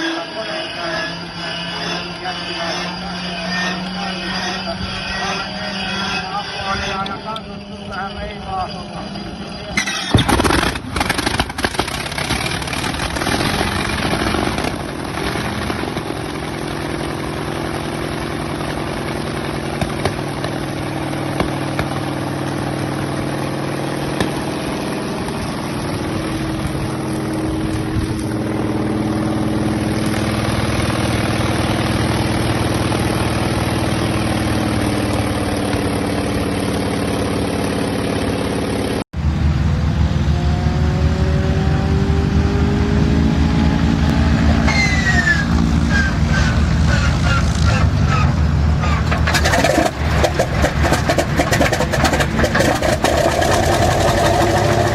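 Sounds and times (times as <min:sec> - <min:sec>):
radial engine starting and running: 0:00.0 - 0:54.9
engine bangs: 0:01.7 - 0:54.9.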